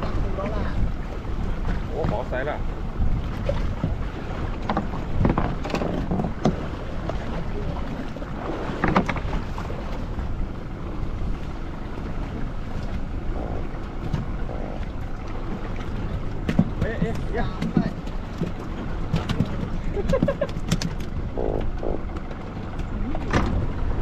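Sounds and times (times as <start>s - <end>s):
boat and water rumble: 0.0s - 24.0s
wind buffeting microphone: 0.0s - 24.0s.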